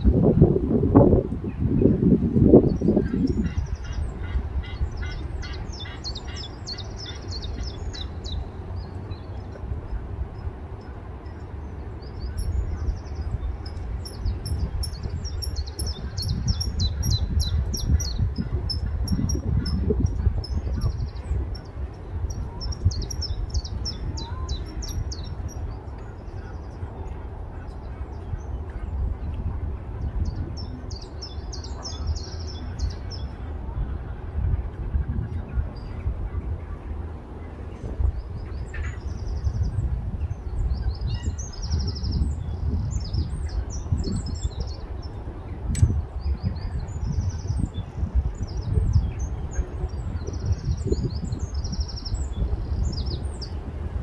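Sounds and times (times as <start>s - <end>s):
wind rumble on microphone: 0.0s - 54.0s
songbirds chirping: 1.0s - 54.0s.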